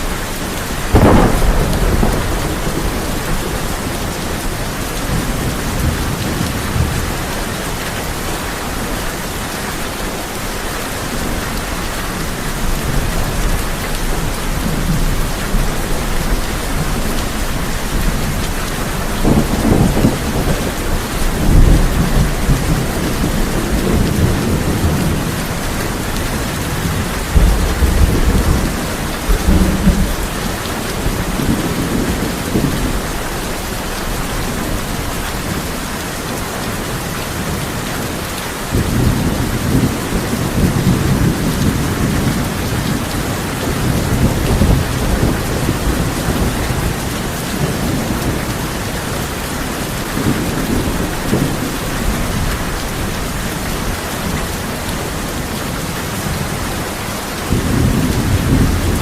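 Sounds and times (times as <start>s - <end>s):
thunder rumbling: 0.0s - 9.3s, 12.2s - 35.8s, 38.6s - 56.7s, 57.4s - 59.0s
rain on a tin roof: 0.0s - 59.0s.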